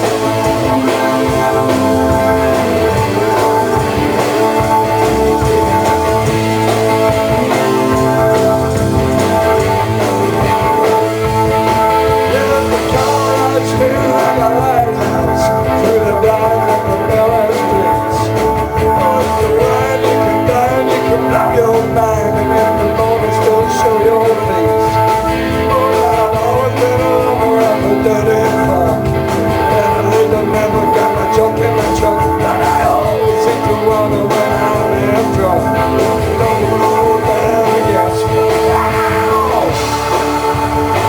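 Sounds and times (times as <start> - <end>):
instrumental rock music with guitar: 0.0 - 41.0.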